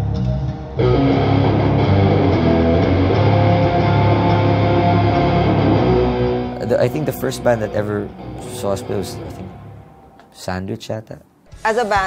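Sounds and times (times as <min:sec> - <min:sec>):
rock band music: 0:00.0 - 0:10.2.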